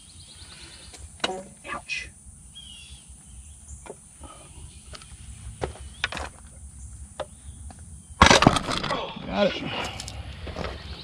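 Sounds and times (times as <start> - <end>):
bird chirp: 0.0 - 8.2, 10.2 - 11.0.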